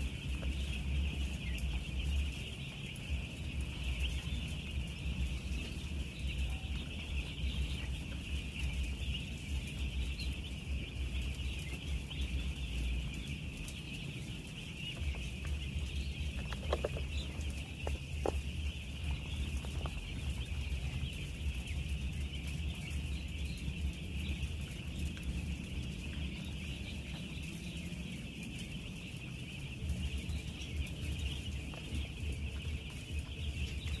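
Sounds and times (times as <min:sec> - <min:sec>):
chicks peeping: 0:00.0 - 0:34.0
low rumble: 0:00.0 - 0:34.0.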